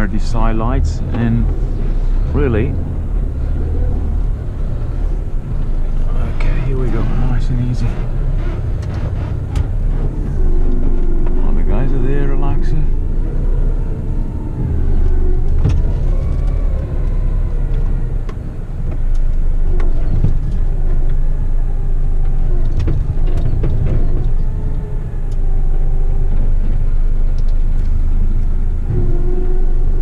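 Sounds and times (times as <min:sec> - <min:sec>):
truck diesel engine whine: 0:00.0 - 0:30.0.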